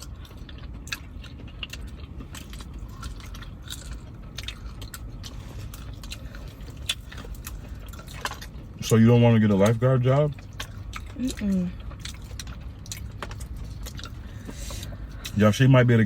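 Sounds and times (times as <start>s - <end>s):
chewing and biting chicken wings: 0.0s - 8.8s, 9.4s - 15.4s
low steady hum: 0.0s - 16.0s.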